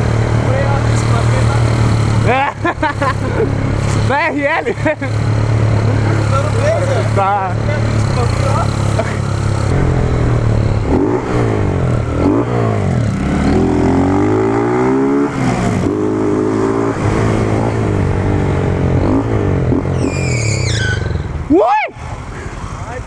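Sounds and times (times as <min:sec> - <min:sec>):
motorcycle engine revving: 0:00.0 - 0:21.5.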